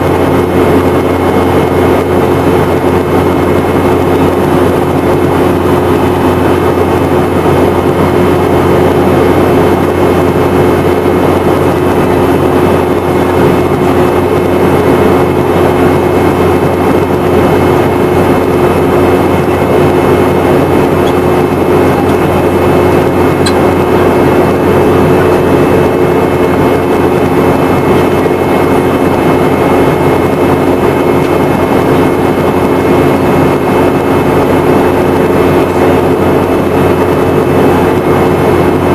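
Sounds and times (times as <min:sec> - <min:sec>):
airflow rushing: 0:00.0 - 0:38.9
jet engines humming: 0:00.0 - 0:38.9.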